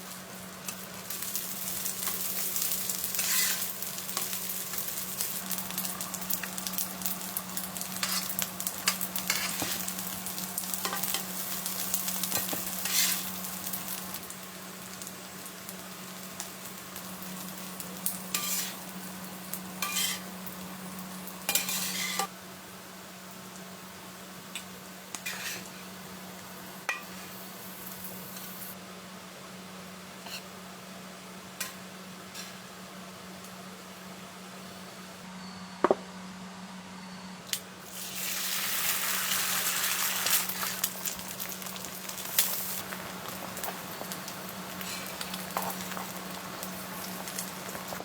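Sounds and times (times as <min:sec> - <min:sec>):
food sizzling in a pan: 0:00.0 - 0:28.8, 0:29.6 - 0:34.1, 0:37.8 - 0:48.0.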